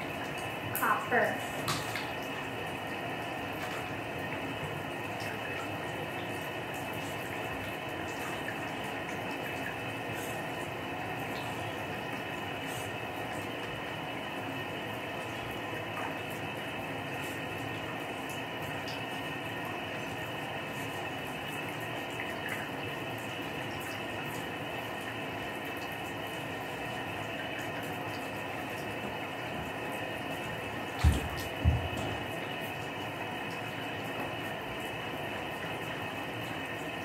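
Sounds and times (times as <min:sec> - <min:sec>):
water running into bathtub: 0:00.0 - 0:37.0.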